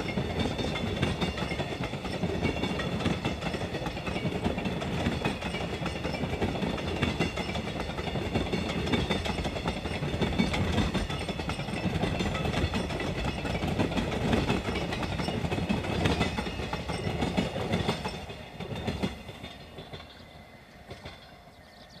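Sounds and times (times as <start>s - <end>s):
freight train wheels clattering: 0.0s - 22.0s.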